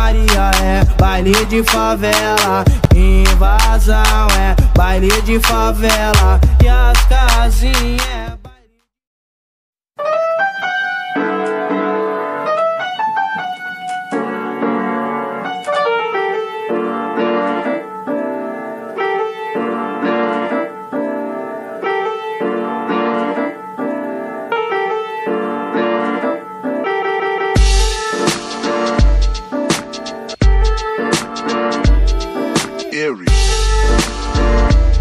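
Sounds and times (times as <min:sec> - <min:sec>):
piano playing repeating chords: 0:00.0 - 0:08.4, 0:10.0 - 0:35.0.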